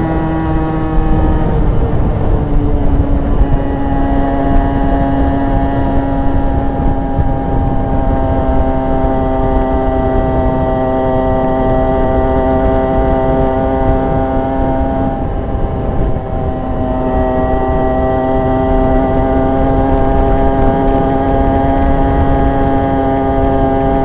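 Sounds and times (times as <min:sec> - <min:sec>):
motorcycle engine buzzing at high revs: 0:00.0 - 0:24.0
wind rumble on microphone: 0:00.0 - 0:24.0.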